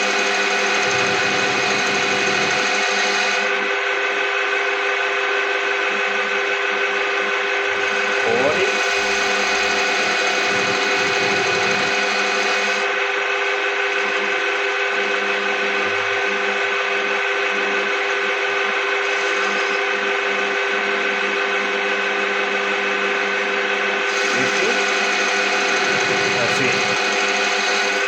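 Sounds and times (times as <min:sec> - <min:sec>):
metal lathe motor whine: 0:00.0 - 0:28.0.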